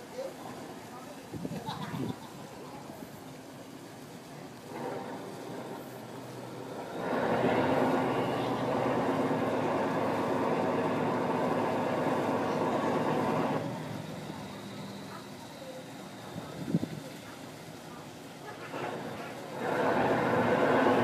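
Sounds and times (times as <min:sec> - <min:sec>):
boat diesel engine running: 0:02.1 - 0:21.0.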